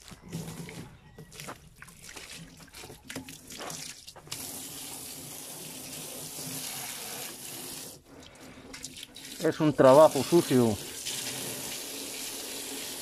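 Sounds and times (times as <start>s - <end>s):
water splashing and sloshing: 0.0s - 12.3s
running water stream: 0.0s - 13.0s.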